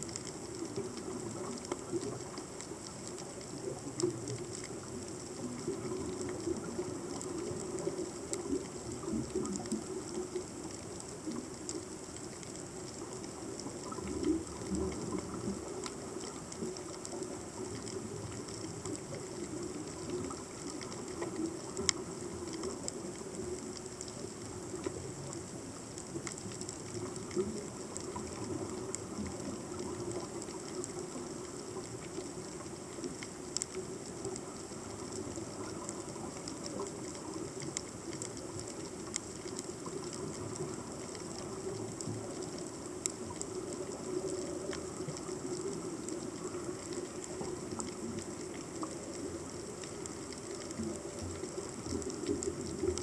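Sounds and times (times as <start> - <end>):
fine crackle: 0.0 - 53.0
underwater low hum: 0.0 - 53.0.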